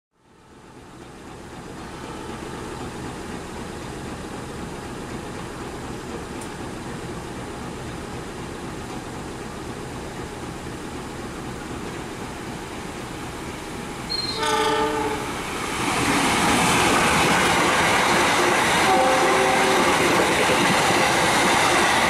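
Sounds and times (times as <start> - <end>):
diesel locomotive idling: 0.3 - 22.0.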